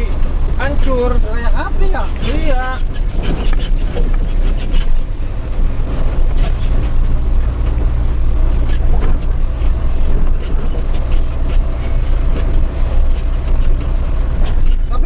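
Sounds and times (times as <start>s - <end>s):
faint drivetrain whine: 0.0s - 15.0s
truck diesel engine rumble: 0.0s - 15.0s.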